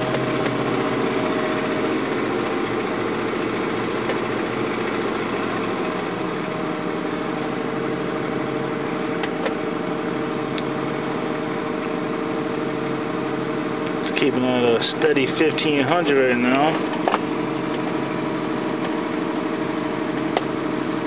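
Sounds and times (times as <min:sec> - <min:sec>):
engine at raised idle: 0:00.0 - 0:21.0.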